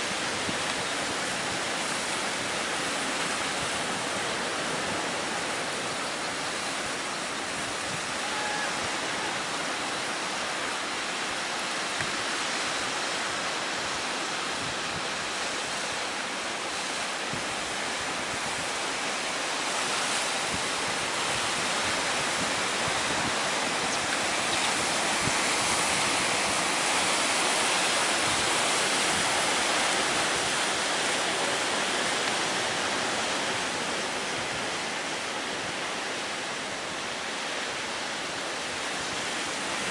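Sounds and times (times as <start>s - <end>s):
heavy sea surf: 0.0s - 39.9s
strong wind: 0.0s - 39.9s.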